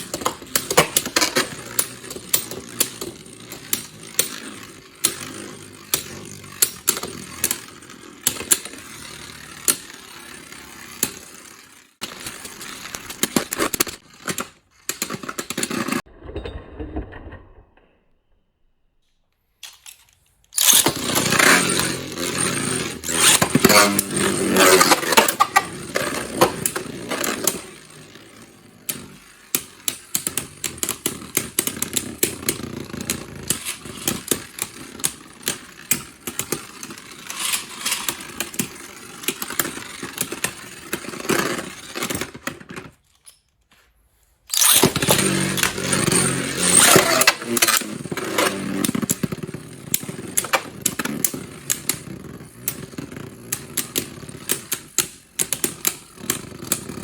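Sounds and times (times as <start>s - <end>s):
spinning tops whirring and clashing: 0.0s - 17.3s, 20.5s - 42.9s, 44.5s - 57.0s.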